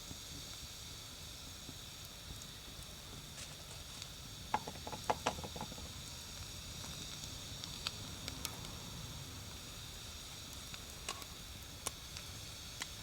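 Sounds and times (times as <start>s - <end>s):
steady hiss: 0.0s - 13.0s
wood fire crackling: 0.2s - 13.0s.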